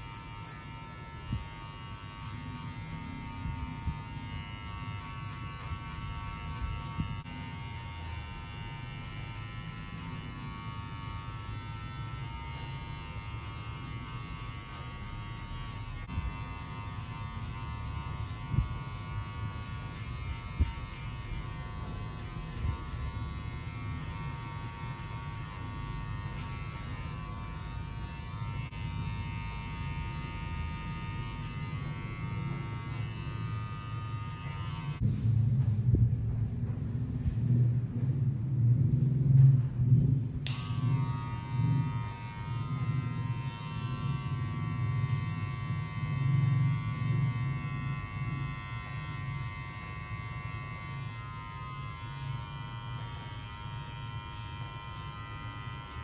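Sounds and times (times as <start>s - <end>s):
electric hair clippers buzzing: 0.0s - 35.0s, 40.5s - 56.0s.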